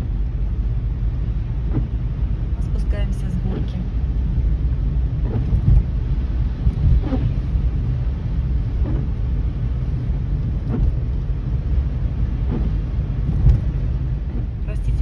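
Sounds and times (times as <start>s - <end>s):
car cabin road and engine noise: 0.0s - 15.0s
windscreen wipers swishing: 0.0s - 15.0s.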